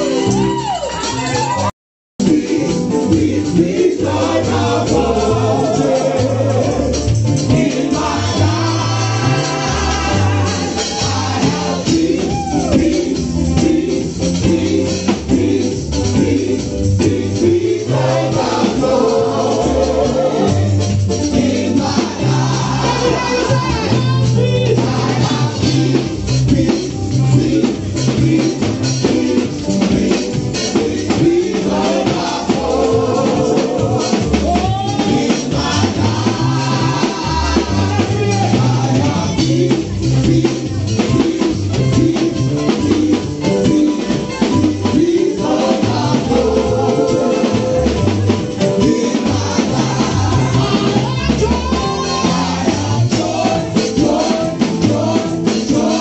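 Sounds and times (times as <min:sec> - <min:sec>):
band with drums and guitar: 0:00.0 - 0:56.0.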